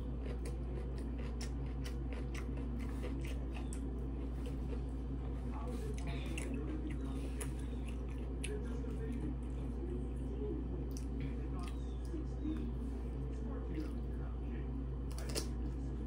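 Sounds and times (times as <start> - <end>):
chewing: 0.0 - 14.1
steady low hum: 0.0 - 16.0.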